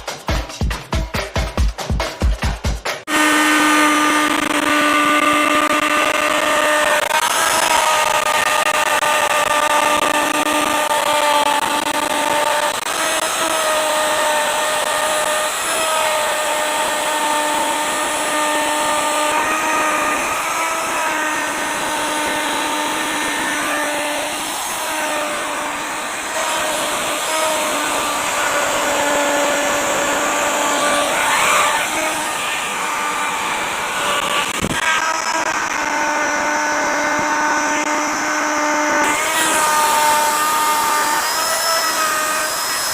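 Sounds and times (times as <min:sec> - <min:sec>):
wood router cutting wood: 0:03.0 - 0:42.9.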